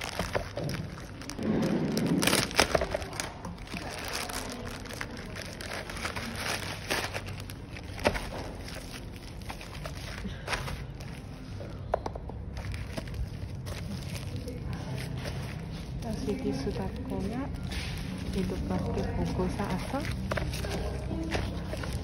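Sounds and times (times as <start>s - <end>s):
plastic bag crinkling and tearing: 0.0s - 11.7s, 12.4s - 22.0s.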